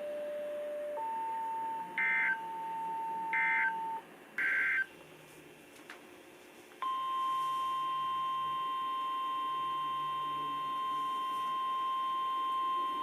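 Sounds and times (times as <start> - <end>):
single-pitch warning alarm tone: 0.0 - 4.9, 6.8 - 13.0.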